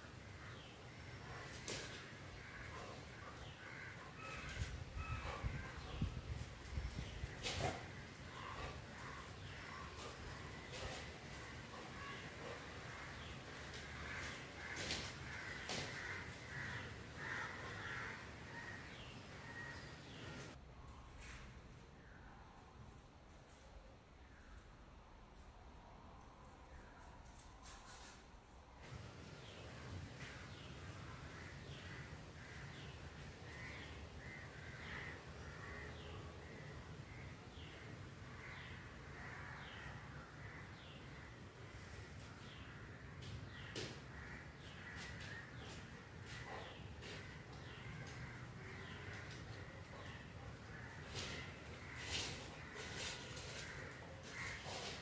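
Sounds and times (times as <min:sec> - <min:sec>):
crows cawing faintly: 0:00.0 - 0:20.6, 0:29.3 - 0:55.0.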